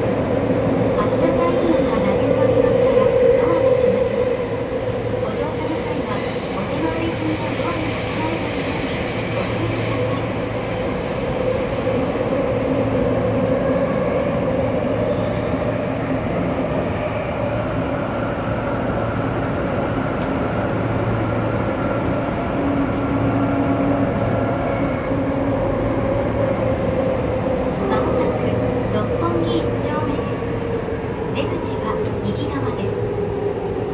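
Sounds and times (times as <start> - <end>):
train rolling through tunnel: 0.0 - 33.9.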